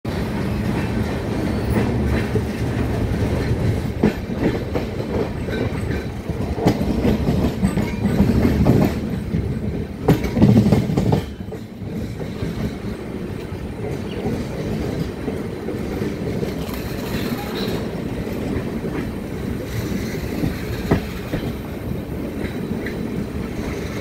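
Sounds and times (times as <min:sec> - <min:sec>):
train wheels rumbling on track: 0:00.0 - 0:24.0
wheels clacking over rail joints: 0:00.1 - 0:24.0.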